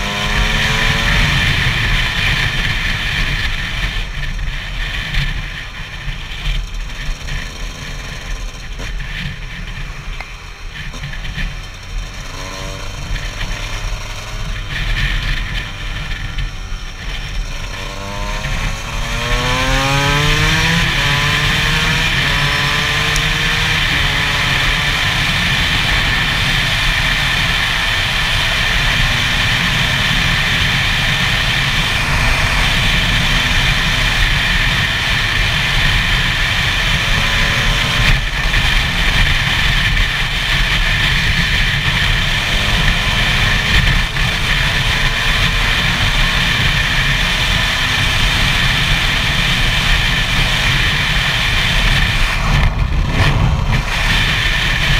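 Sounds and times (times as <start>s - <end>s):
two-stroke motorcycle engine: 0.0s - 54.9s
wind rush on microphone: 0.0s - 54.9s.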